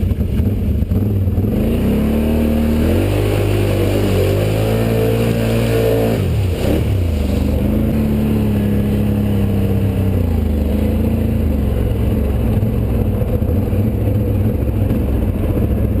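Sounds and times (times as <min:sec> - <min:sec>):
all-terrain vehicle engine revving: 0:00.0 - 0:16.0.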